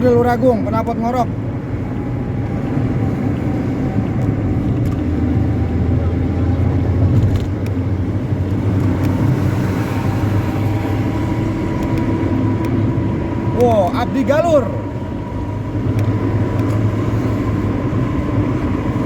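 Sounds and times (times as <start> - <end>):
bus exhaust deep rumble: 0.0 - 19.0
road noise: 0.0 - 19.0.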